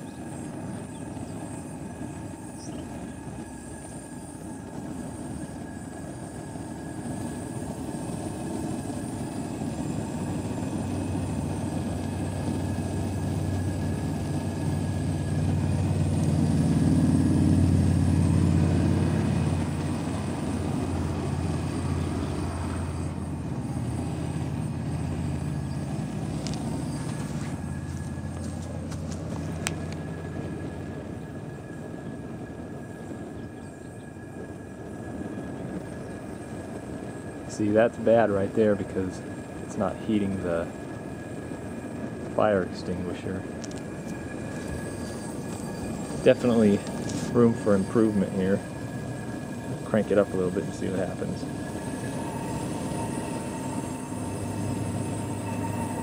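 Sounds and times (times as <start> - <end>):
burner flames rumbling: 0.0 - 56.0
wind blowing: 0.0 - 56.0.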